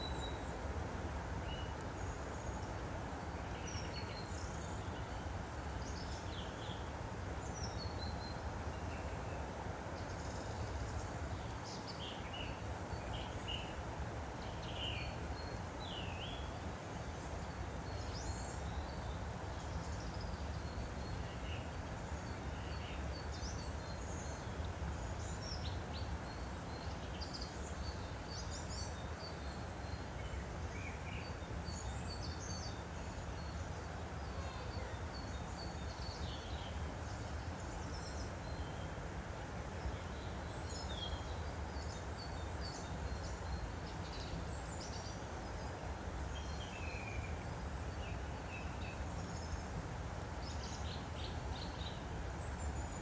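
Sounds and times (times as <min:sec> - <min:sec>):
stream rushing: 0:00.0 - 0:53.0.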